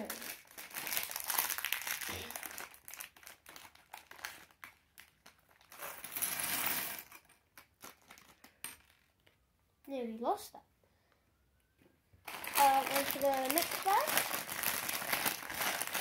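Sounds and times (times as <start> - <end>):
plastic bag crinkling: 0.0 - 9.3, 12.2 - 16.0.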